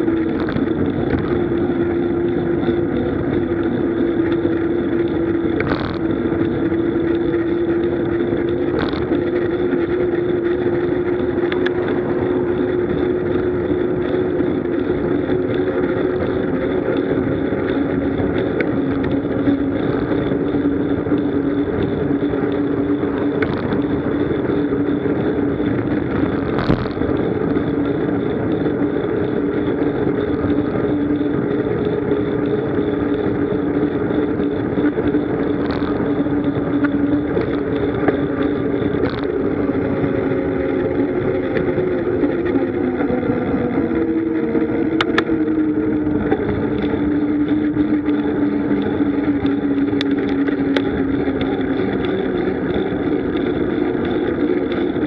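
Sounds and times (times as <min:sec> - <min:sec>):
low hum: 0:00.0 - 0:55.0
wind and road rush: 0:00.0 - 0:55.0.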